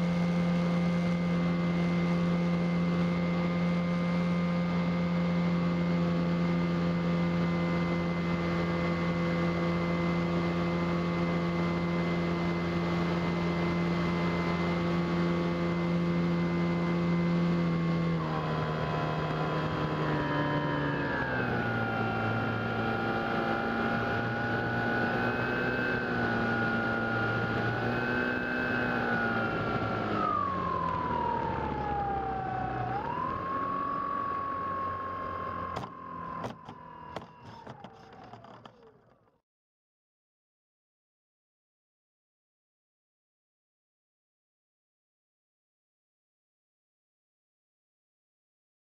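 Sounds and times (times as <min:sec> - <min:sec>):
electric motor and propeller whine: 0:00.0 - 0:39.3.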